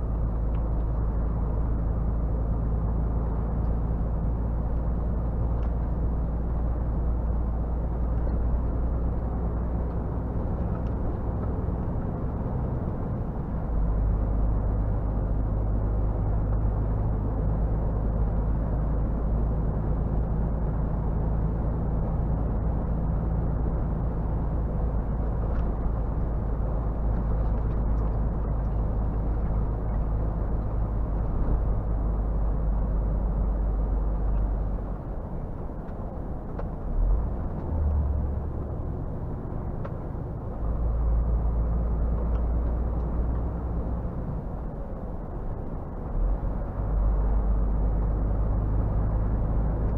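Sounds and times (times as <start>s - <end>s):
truck diesel engine drone: 0.0s - 49.9s.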